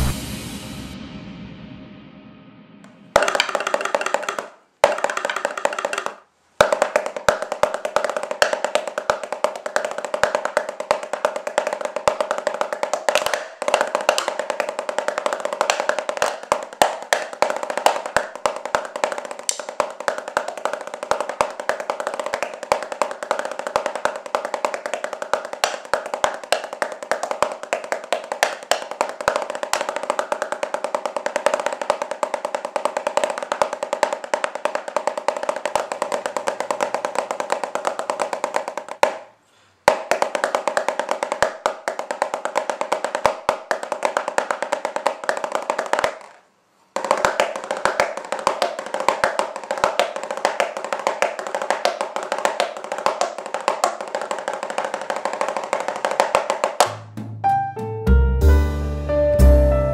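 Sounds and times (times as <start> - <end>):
drumsticks tapping practice pad: 2.8 - 46.4, 47.0 - 57.0.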